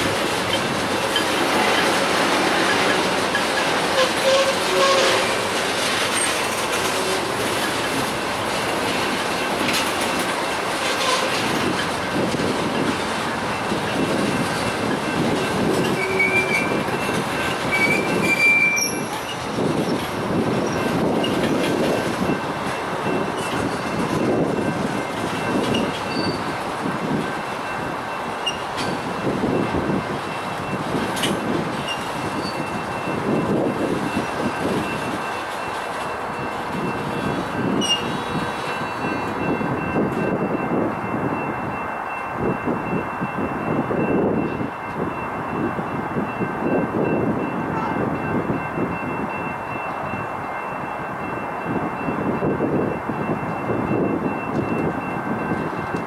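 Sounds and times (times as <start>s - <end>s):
train wheel squeal: 0.0s - 56.0s
train wheels clattering on track: 0.0s - 56.0s.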